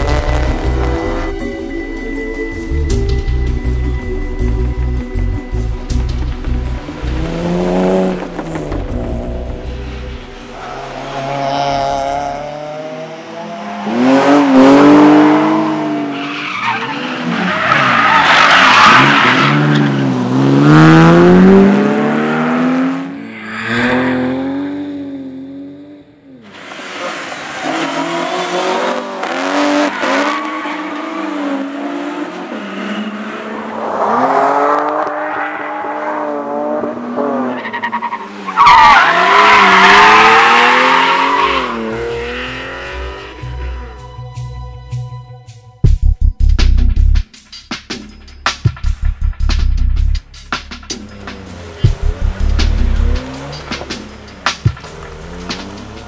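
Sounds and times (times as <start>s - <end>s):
rally car engines revving: 0.0s - 1.9s, 2.5s - 44.0s, 50.2s - 56.0s.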